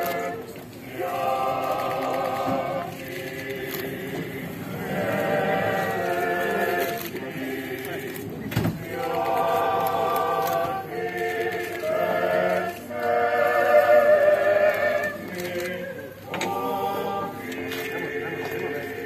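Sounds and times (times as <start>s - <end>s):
choir chanting in held notes: 0.0s - 19.0s.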